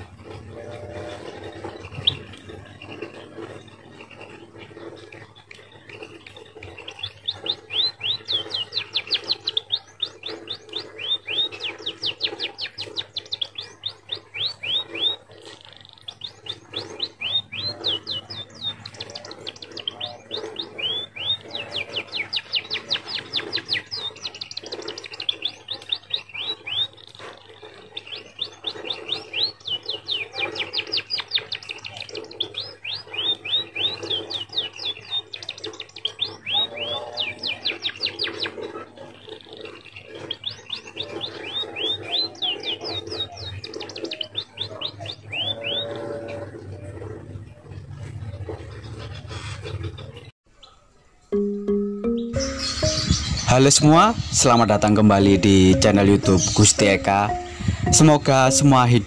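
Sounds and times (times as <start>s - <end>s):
bird singing high chirps and trills: 0.0s - 48.1s, 51.4s - 59.0s.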